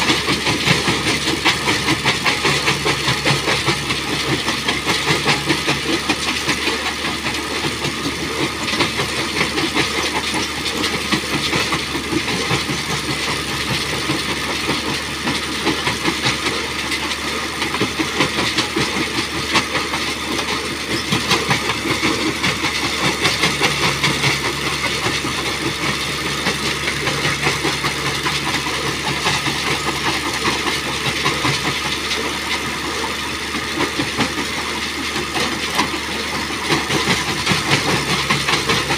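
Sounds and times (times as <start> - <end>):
crusher engine running: 0.0 - 38.9.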